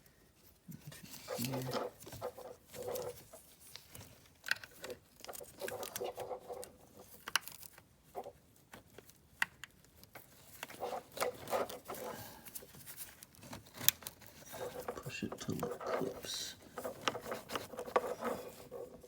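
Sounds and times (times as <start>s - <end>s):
scratchy rustling of wiring: 0.4s - 19.0s.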